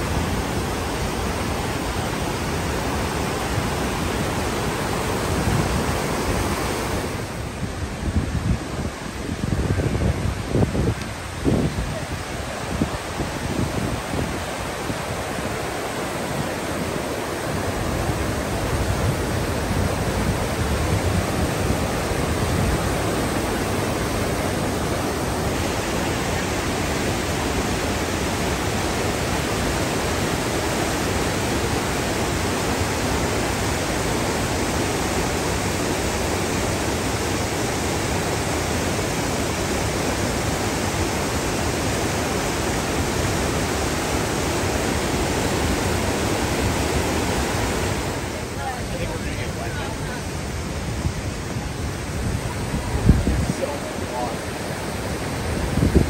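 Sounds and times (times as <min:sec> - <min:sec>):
creek rushing over boulders: 0:00.0 - 0:56.0.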